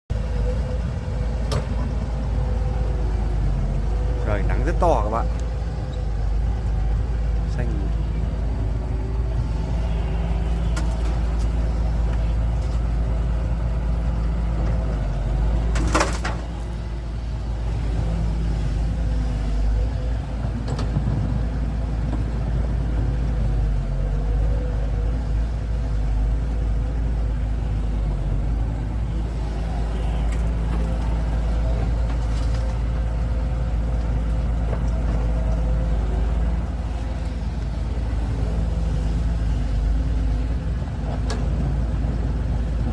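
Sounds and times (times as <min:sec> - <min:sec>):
heavy diesel engines droning: 0:00.0 - 0:42.9.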